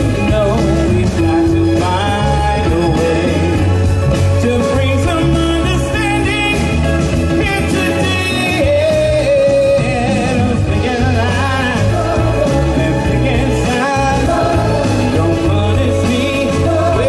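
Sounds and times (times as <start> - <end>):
live soul band with singing: 0.0 - 17.0.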